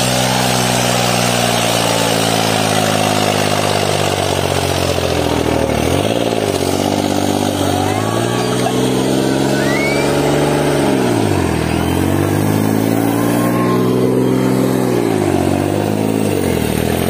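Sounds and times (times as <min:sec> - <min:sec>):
tractor diesel engine revving: 0:00.0 - 0:17.0.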